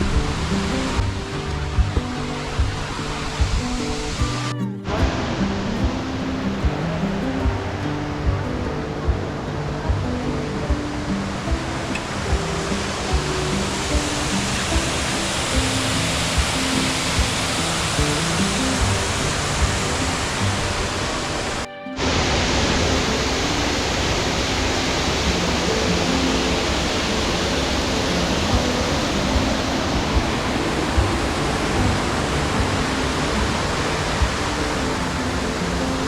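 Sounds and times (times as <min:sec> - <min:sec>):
soft background music: 0:00.0 - 0:36.0
waterfall pouring: 0:00.0 - 0:36.0.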